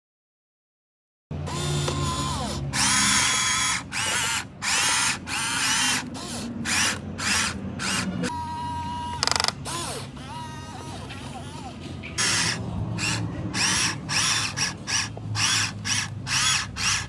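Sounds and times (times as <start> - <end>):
electric motors whining: 1.3 - 17.0.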